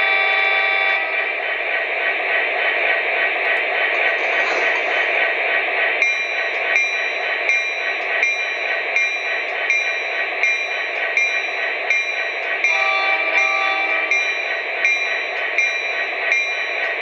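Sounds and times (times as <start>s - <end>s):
model locomotive diesel running noise: 0.0s - 17.0s
steady tones: 1.0s - 17.0s.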